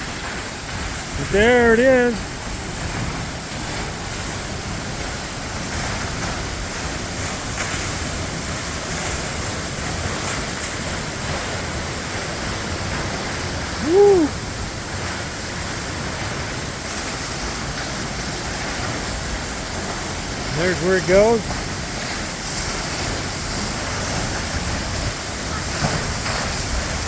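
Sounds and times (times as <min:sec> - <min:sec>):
waterfall splashing onto rock: 0:00.0 - 0:27.0.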